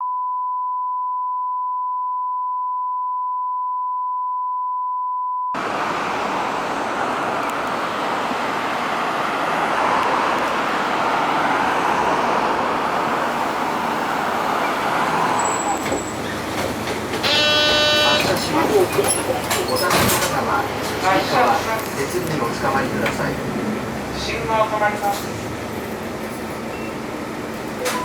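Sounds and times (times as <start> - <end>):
bus engine and road noise: 5.6 - 28.0.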